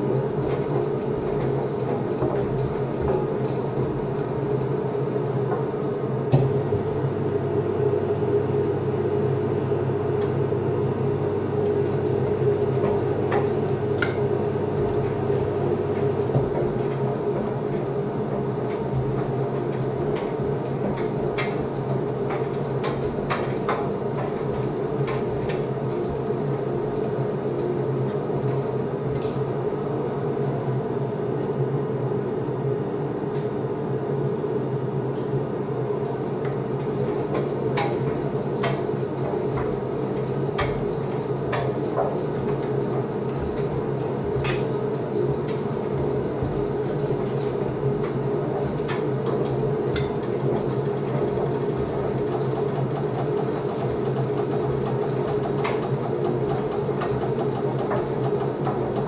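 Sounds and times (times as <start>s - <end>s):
tumble dryer humming: 0.0s - 59.0s.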